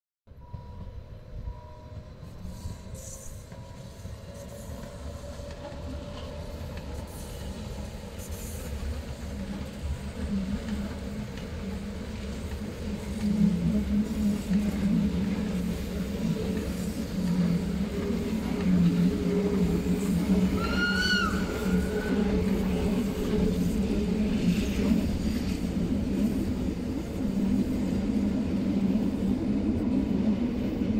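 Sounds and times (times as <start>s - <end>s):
electric train rumble and hum: 0.3s - 30.9s.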